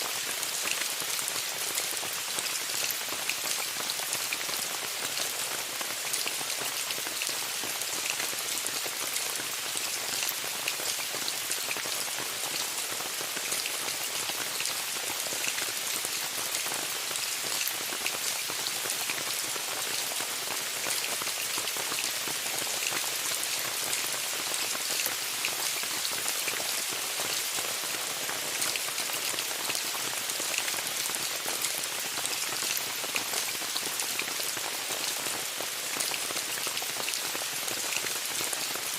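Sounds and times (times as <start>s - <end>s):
rain falling on a tent: 0.0s - 38.9s.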